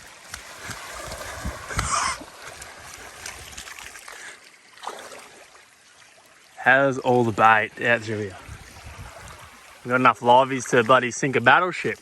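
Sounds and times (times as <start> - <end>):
water splashing and sloshing: 0.0 - 12.0
water trickling: 0.0 - 12.0.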